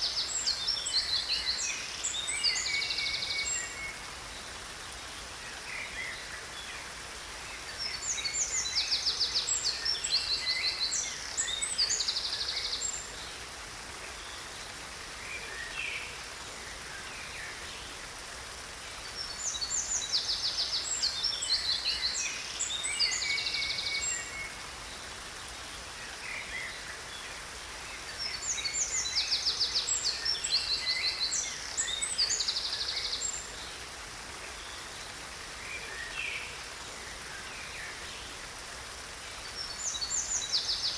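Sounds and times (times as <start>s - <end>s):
rushing falling water: 0.0s - 40.9s.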